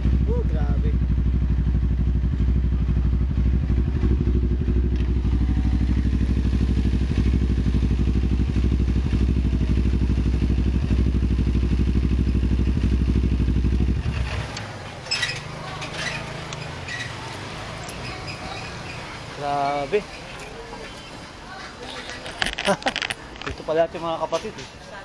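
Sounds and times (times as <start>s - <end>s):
motorcycle engine running: 0.0s - 20.1s.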